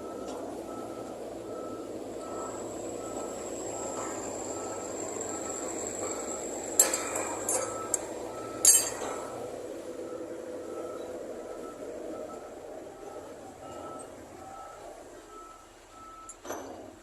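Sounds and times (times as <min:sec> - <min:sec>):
excavator running: 0:00.0 - 0:17.0.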